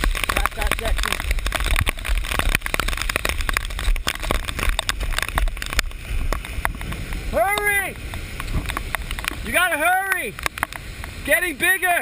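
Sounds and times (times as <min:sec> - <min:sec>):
muffled rushing runoff and rain: 0:00.0 - 0:12.0.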